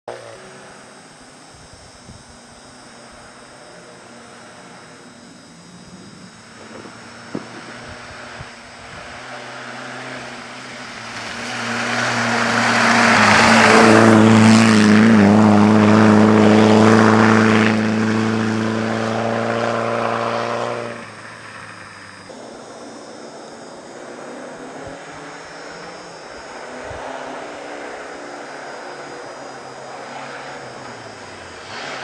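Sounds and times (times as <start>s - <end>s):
rally car engine passing: 5.9s - 32.0s.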